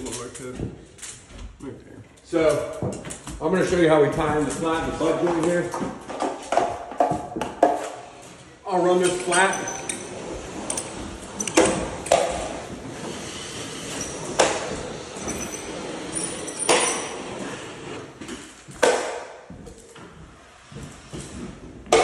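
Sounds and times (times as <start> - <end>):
drywall tool scraping along ceiling: 3.4 - 22.0.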